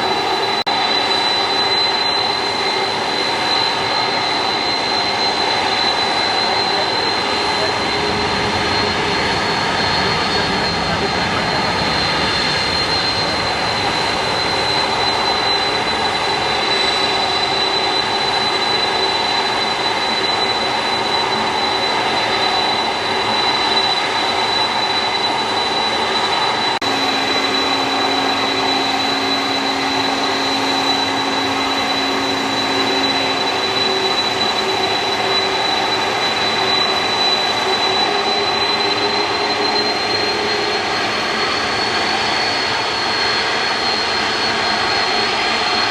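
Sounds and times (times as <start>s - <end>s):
jet engines roaring and whining: 0.0s - 45.9s.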